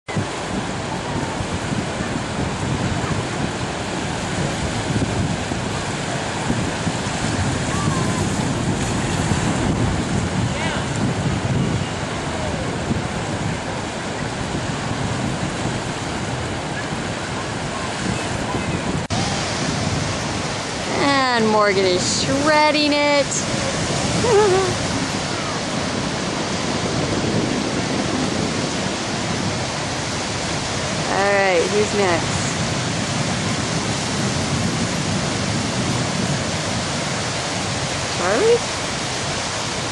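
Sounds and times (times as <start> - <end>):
waves breaking: 0.1 - 39.9
wind on microphone: 0.1 - 39.9.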